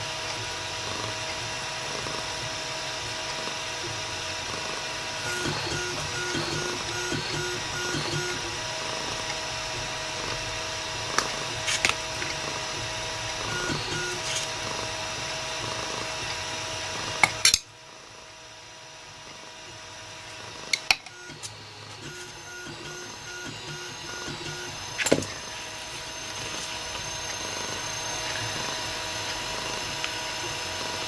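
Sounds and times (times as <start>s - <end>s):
mechanical whir: 0.0s - 31.0s.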